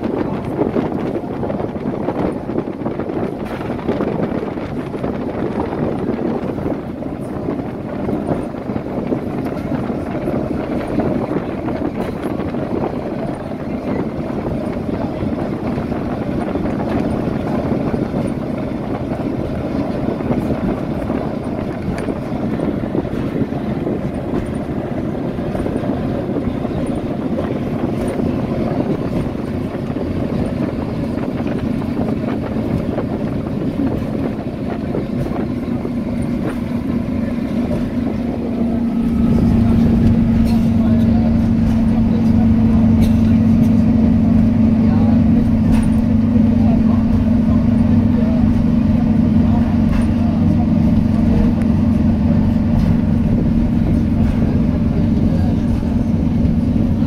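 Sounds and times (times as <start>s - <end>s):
bus engine and tyre drone: 0.0s - 57.0s.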